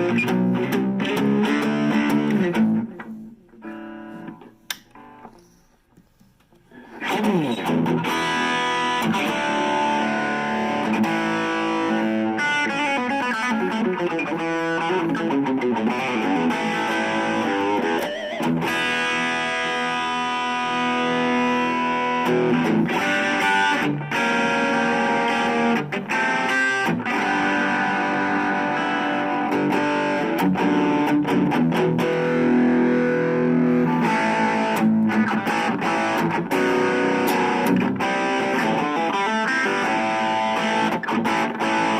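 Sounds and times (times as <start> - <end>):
distorted electric guitar: 0.0 - 5.6, 6.6 - 41.9.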